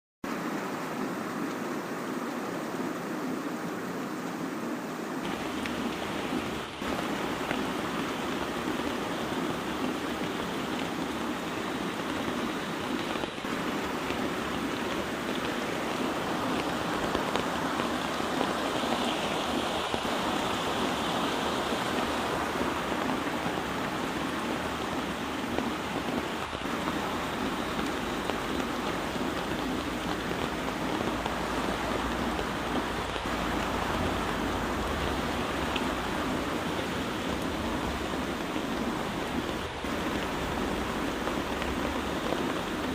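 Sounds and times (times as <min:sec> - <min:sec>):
heavy rain falling: 0:00.3 - 0:42.9.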